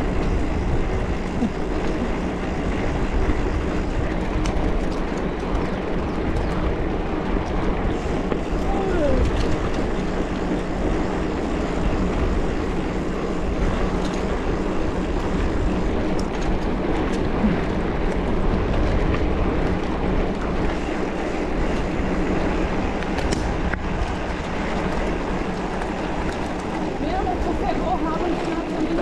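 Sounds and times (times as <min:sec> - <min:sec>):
bike tyre noise: 0:00.0 - 0:29.0
faint ticks and rattles: 0:00.0 - 0:29.0
wind rumble on microphone: 0:00.0 - 0:29.0.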